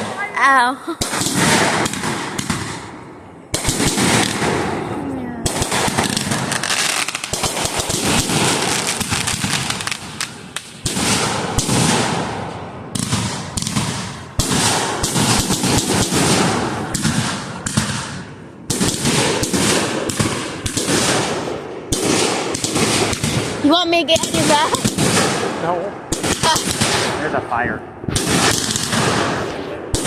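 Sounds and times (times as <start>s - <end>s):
fireworks crackling and banging: 0.0s - 30.0s.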